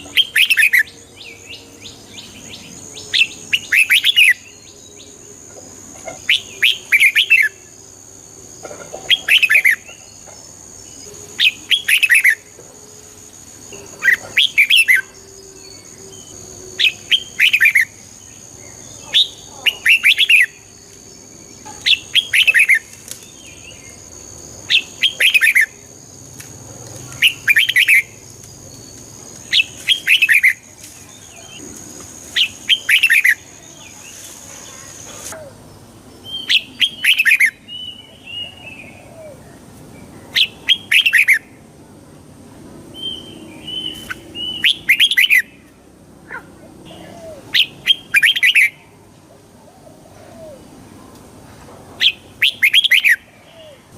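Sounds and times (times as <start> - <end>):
bird singing chirping phrases: 0.0 - 8.3, 9.0 - 26.2, 26.9 - 41.6, 42.9 - 45.7, 46.4 - 51.0, 52.0 - 53.9.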